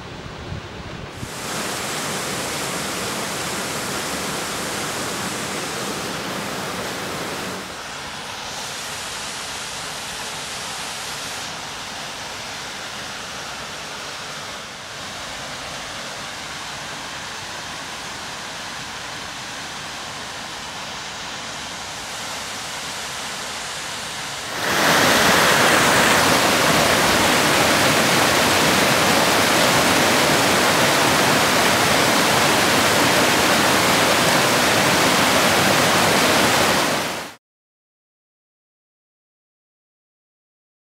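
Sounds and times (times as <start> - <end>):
waterfall rushing: 1.2 - 37.4.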